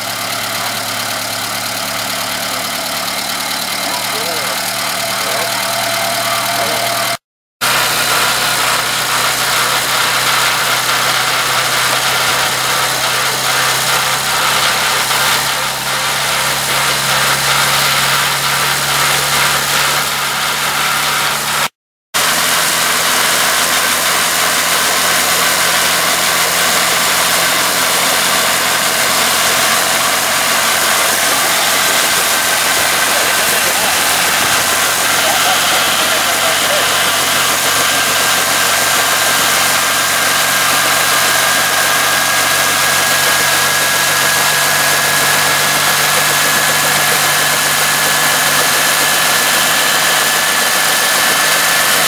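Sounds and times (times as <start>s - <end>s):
helicopter engine and rotor running: 0.0s - 52.0s.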